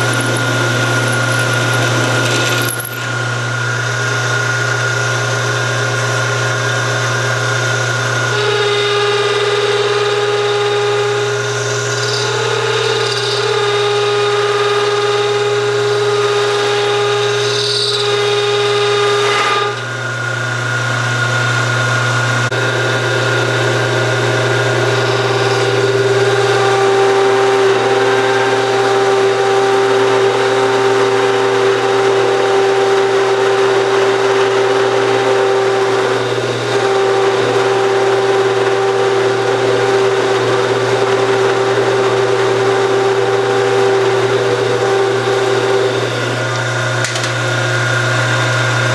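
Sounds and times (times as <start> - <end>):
machine tool cutting metal: 0.0 - 21.8, 22.4 - 48.9.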